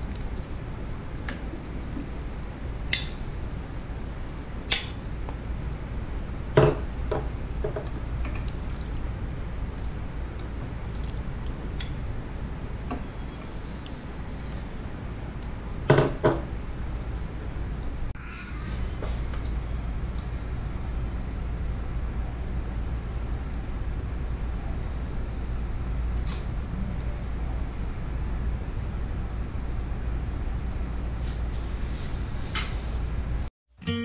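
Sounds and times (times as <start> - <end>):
steady low hum: 0.0 - 33.5.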